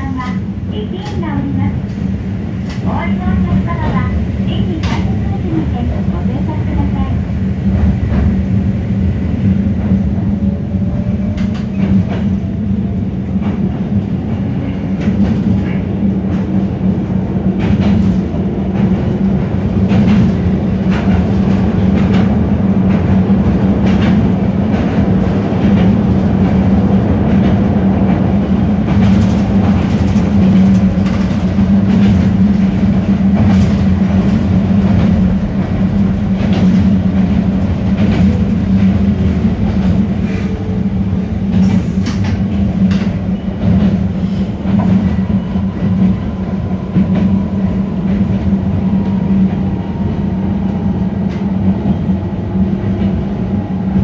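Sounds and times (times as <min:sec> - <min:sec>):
electric train rumble and hum: 0:00.0 - 0:54.0.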